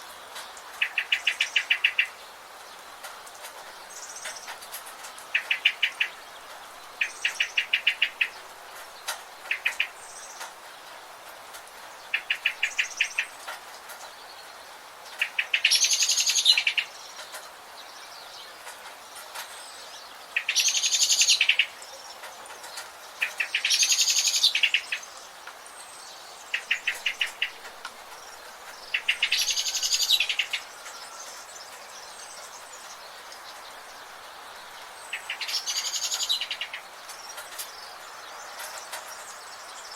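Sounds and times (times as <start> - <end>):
forest birds calling: 0.0 - 39.9
steady background hiss: 0.0 - 39.9.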